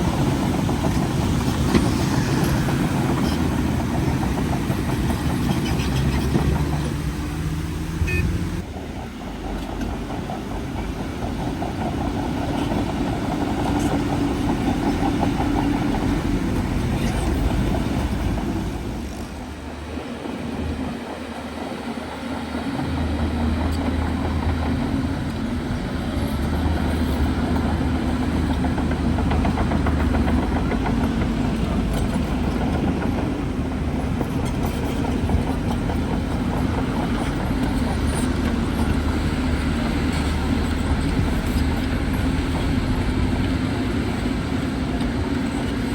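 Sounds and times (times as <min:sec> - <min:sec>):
bulldozer diesel engine: 0:00.0 - 0:45.9.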